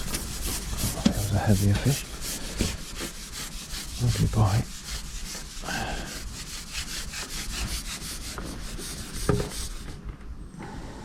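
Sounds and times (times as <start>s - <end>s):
fishing pole rasping rub: 0.0s - 9.8s.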